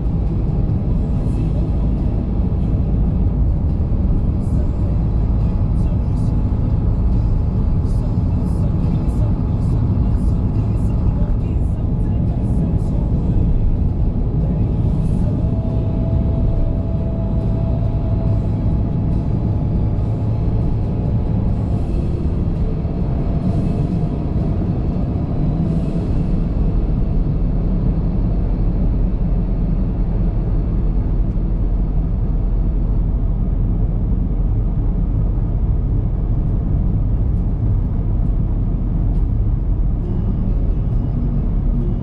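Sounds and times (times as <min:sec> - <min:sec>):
car tyres and engine rumble: 0:00.0 - 0:42.0.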